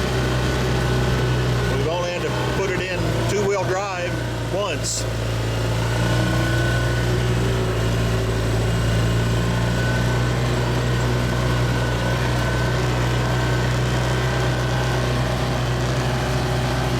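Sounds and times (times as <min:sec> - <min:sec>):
vehicle engine idling: 0:00.0 - 0:16.9.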